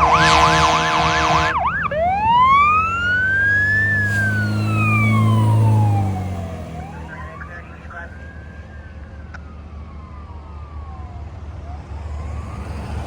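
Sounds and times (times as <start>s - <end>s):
electronic siren yelp and wail: 0.0s - 12.7s
low vehicle rumble: 0.0s - 13.0s.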